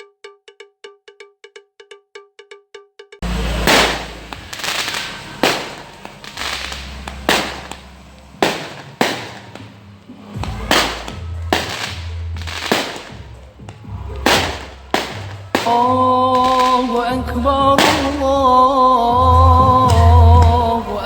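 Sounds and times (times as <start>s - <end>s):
fireworks bangs with crackling: 3.2s - 21.0s
low rumble: 3.2s - 21.0s.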